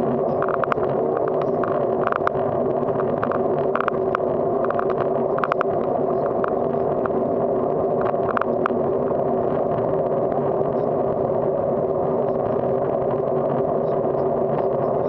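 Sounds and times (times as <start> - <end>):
bicycle tyre rumbling on asphalt: 0.0 - 15.0
wind noise: 0.0 - 15.0.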